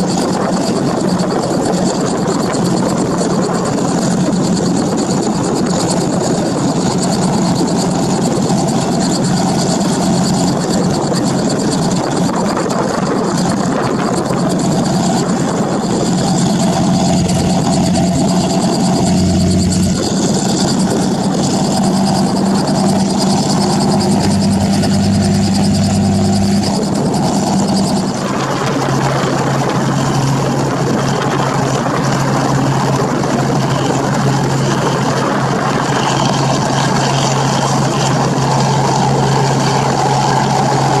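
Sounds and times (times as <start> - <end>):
helicopter engine running: 0.0 - 41.0.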